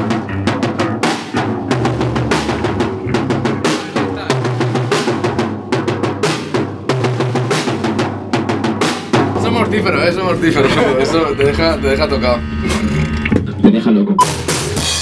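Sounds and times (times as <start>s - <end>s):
drum kit hit hard: 0.0s - 13.0s, 14.2s - 15.0s
band playing loudly: 0.0s - 13.6s, 14.2s - 15.0s
electric bass line: 0.0s - 15.0s.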